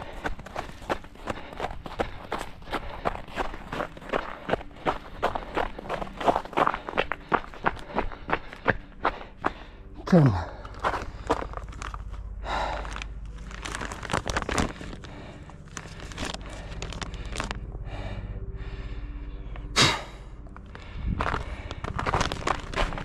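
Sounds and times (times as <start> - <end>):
runner breathing hard: 0.0 - 23.0.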